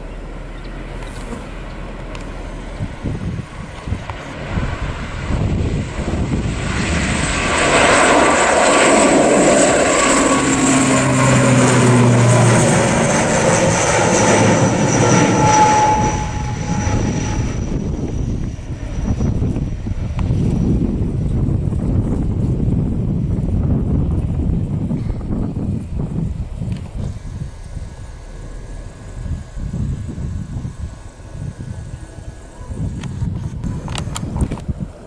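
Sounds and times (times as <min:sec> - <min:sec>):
turboprop aircraft propeller drone: 0:00.0 - 0:35.0.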